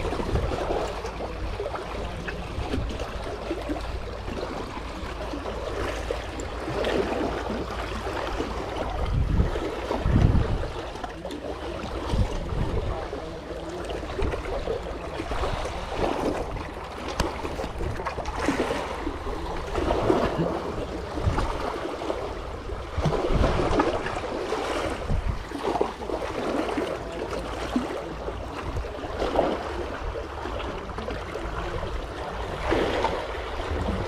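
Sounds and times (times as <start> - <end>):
waves lapping against rocks: 0.0 - 34.0
wind rumbling on microphone: 0.0 - 34.0.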